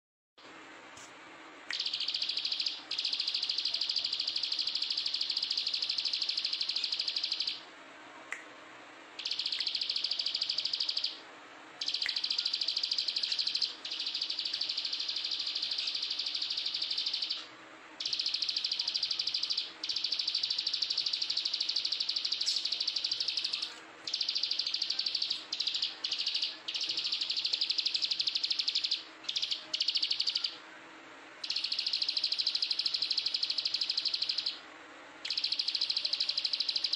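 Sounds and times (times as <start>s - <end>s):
bird singing rapid trills: 1.7s - 7.6s, 9.2s - 11.2s, 11.8s - 30.6s, 31.4s - 34.6s, 35.2s - 36.9s.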